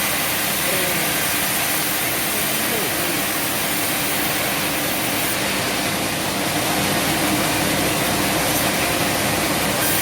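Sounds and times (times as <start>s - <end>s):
sawmill machinery drone: 0.0s - 10.0s.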